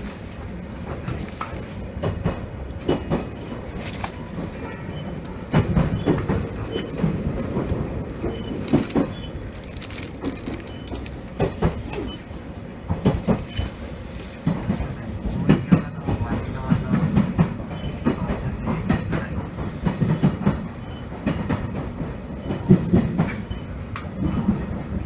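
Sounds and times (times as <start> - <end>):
train running gear rumble: 0.0 - 25.0
train wheels clicking over rail joints: 0.0 - 25.0.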